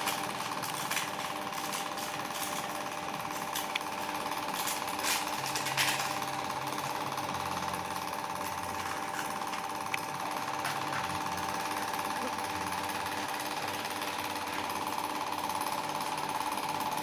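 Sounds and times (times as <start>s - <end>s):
power tool hammering: 0.0s - 17.0s.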